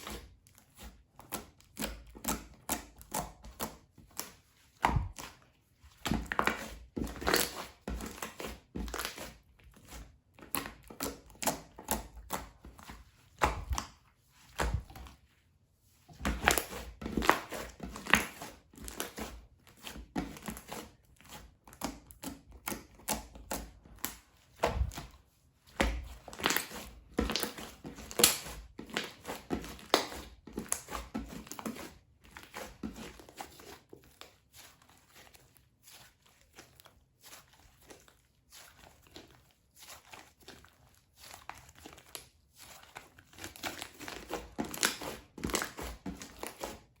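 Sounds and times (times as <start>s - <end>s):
hands squishing slime: 0.0s - 15.4s, 16.0s - 47.0s.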